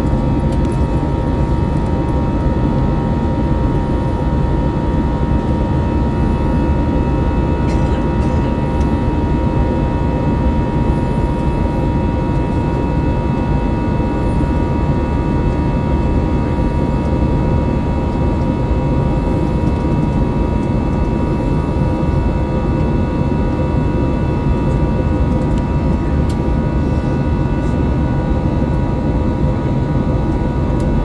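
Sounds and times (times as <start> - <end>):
jet engine rumble in cabin: 0.0 - 31.0.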